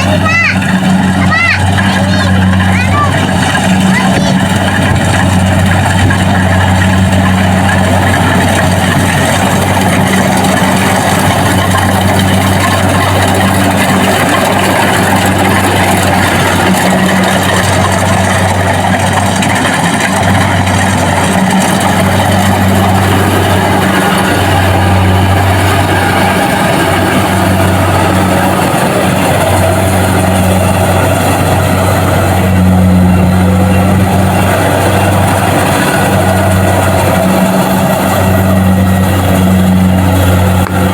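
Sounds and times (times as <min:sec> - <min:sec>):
dense mechanical noise: 0:00.0 - 0:40.9
diesel engine drone: 0:00.0 - 0:40.9.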